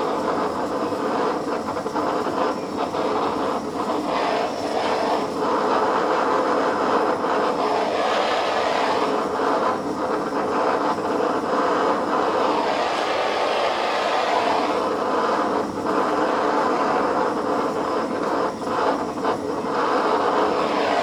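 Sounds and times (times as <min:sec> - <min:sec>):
blowtorch flame rushing: 0:00.0 - 0:21.0.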